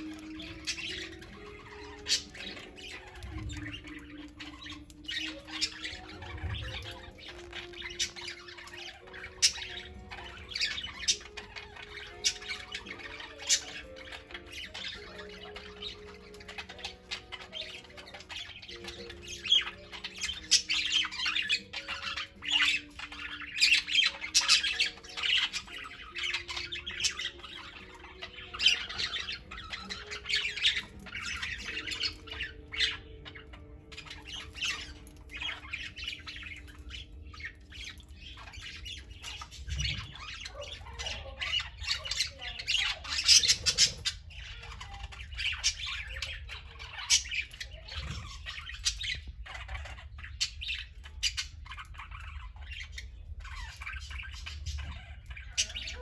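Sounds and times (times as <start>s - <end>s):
budgerigars chattering: 0.0s - 56.0s
loud budgerigar squawks: 0.0s - 56.0s.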